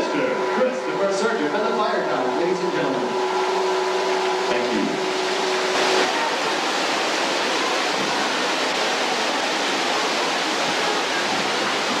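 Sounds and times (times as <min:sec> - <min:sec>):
indoor waterfall rushing: 0:00.0 - 0:12.0.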